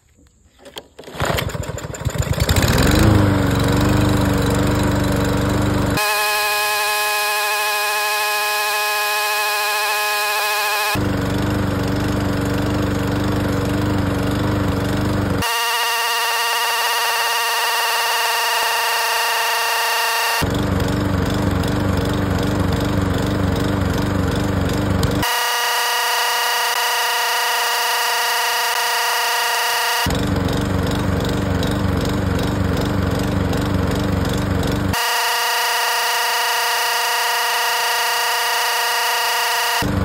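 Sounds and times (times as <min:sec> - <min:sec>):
lawn mower engine starting and running: 0:00.2 - 0:40.0.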